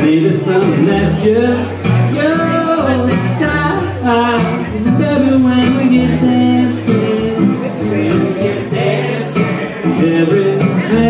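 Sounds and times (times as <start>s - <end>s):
acoustic guitar: 0.0s - 11.0s
man singing: 0.0s - 11.0s.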